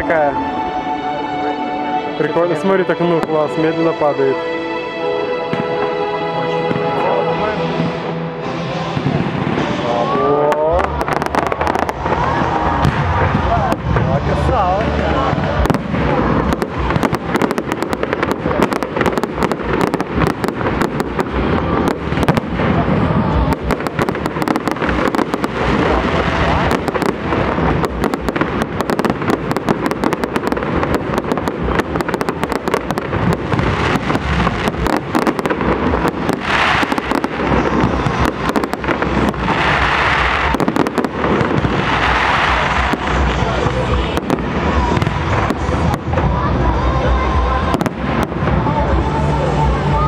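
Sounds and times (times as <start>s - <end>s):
fireworks crackling: 0.0s - 50.0s.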